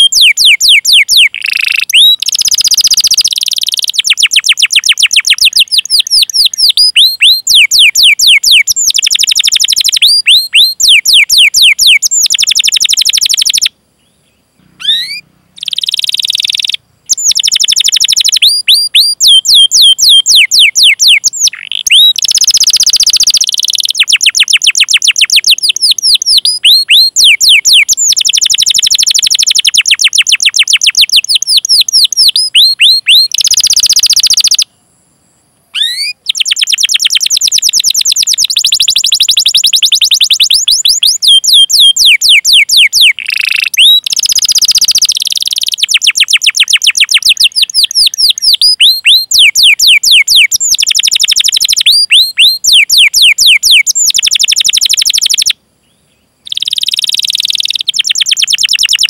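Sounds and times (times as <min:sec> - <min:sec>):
canary singing: 0:00.0 - 0:34.7, 0:35.7 - 0:59.0.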